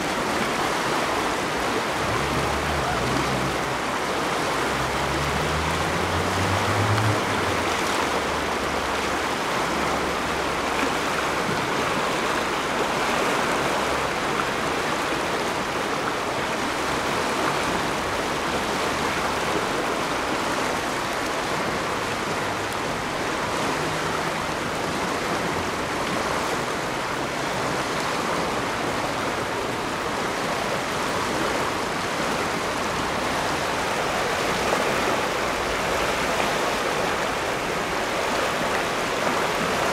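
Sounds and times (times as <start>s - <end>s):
turbulent river water rushing: 0.0s - 39.9s.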